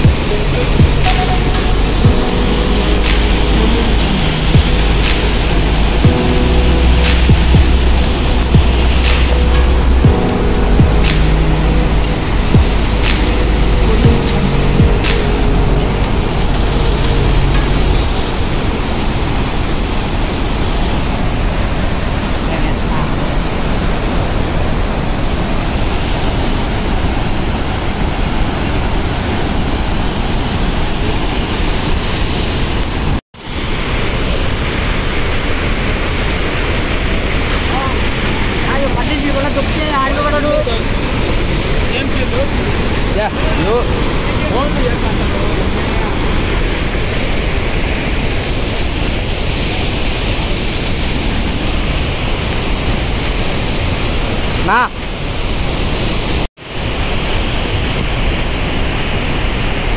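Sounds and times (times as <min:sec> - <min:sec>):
water rushing through spillway: 0:00.0 - 0:59.9.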